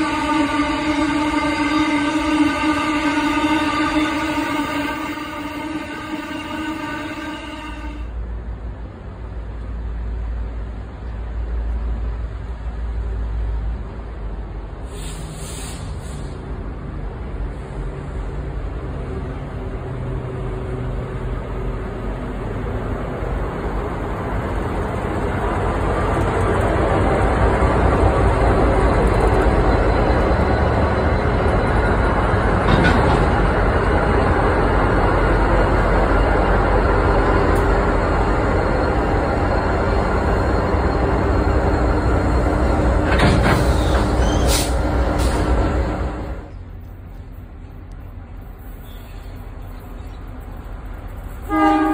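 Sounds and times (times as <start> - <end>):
diesel locomotive engine drone: 0.0 - 51.9
wheel and rail noise: 0.0 - 51.9.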